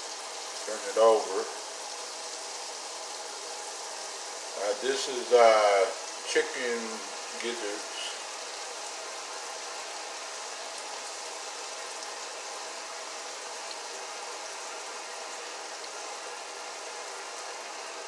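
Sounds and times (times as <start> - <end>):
chicken frying in grease: 0.0 - 18.0.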